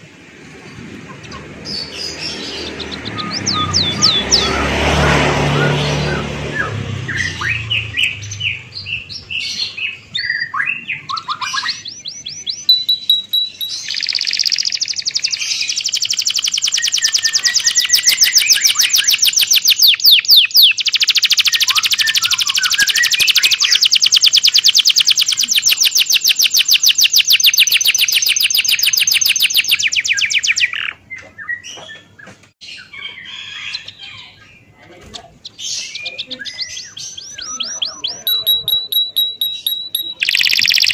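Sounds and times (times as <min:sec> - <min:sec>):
birds chirping: 0:00.0 - 0:40.9
bird trill of downward notes: 0:01.1 - 0:32.0, 0:35.5 - 0:40.9.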